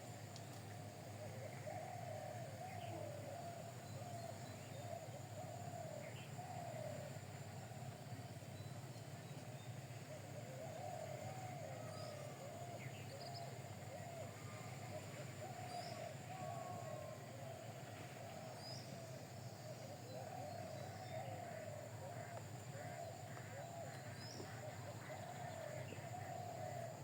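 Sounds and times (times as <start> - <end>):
steady low hum: 0.0 - 27.0
birds cooing: 0.5 - 27.0.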